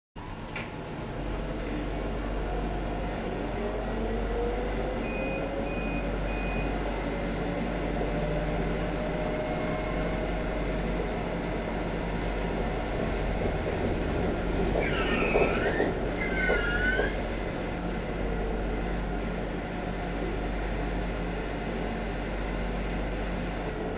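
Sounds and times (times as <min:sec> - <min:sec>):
tram rumble and hum: 0:00.2 - 0:23.9.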